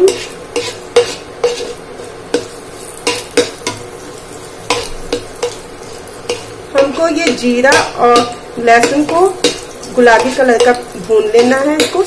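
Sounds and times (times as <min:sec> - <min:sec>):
light sizzling: 0:00.0 - 0:12.0
spoon scraping and tapping a pan: 0:00.0 - 0:12.0.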